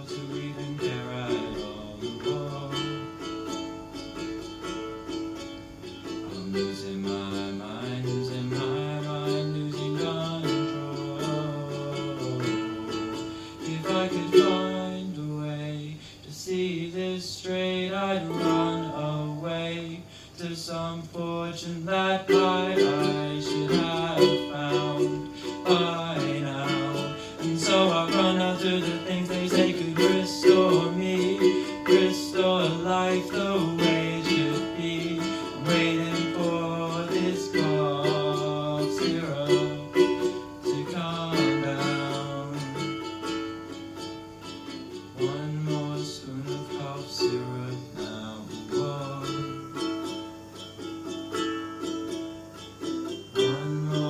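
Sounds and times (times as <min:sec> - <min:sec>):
ukulele strumming chords: 0:00.0 - 0:54.0.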